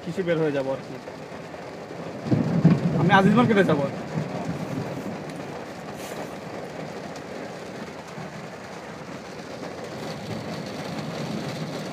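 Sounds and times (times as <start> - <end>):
rain on a vehicle: 0.0 - 11.9
road traffic rumble: 0.6 - 11.9.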